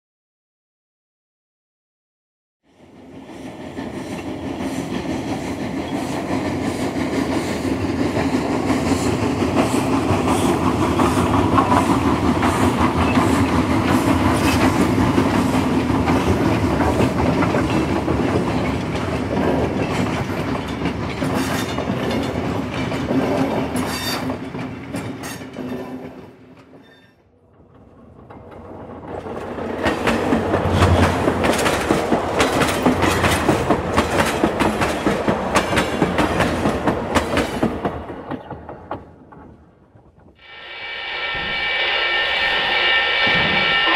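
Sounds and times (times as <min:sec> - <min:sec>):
train wheels clacking on track: 0:02.8 - 0:26.8, 0:27.4 - 0:40.4.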